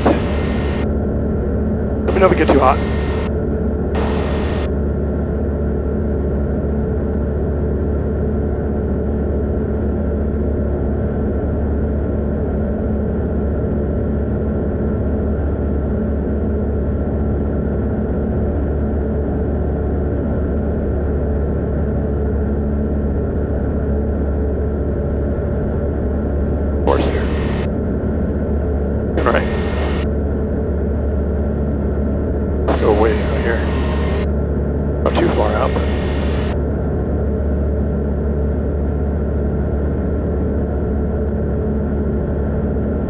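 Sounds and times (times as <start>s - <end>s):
light aircraft engine droning: 0.0s - 43.0s.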